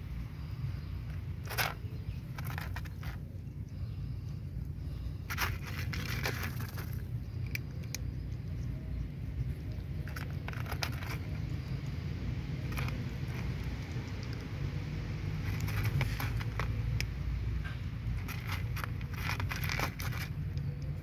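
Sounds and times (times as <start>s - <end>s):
kitten crunching dry kibble: 0.4s - 21.0s.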